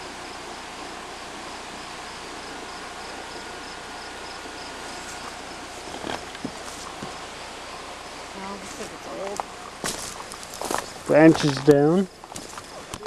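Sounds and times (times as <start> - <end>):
background hiss: 0.0 - 13.0
crickets chirping: 0.0 - 13.0.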